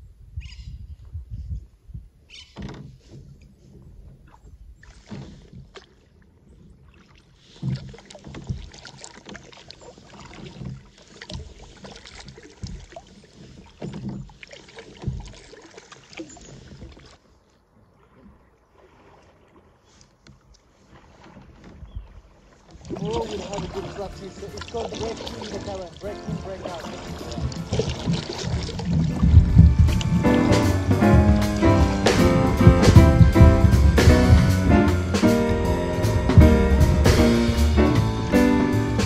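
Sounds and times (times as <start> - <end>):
paddle splashing in water: 2.3 - 39.0.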